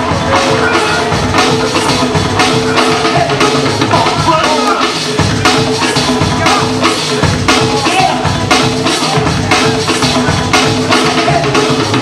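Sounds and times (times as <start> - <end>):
breakbeat music: 0.0 - 12.0.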